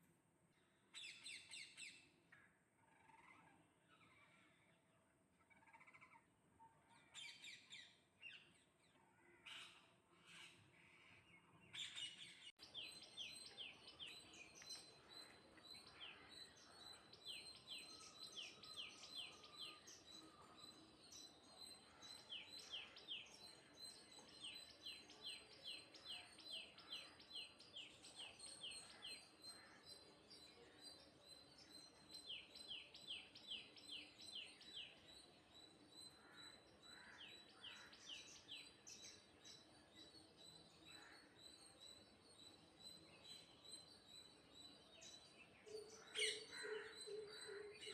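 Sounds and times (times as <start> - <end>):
small birds chirping: 0.6 - 47.9.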